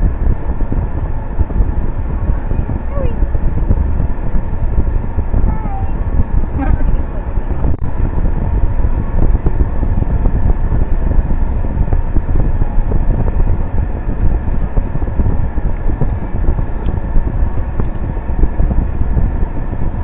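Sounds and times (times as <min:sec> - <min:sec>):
car rumble from inside cabin: 0:00.0 - 0:20.0
wind buffeting microphone: 0:00.0 - 0:20.0.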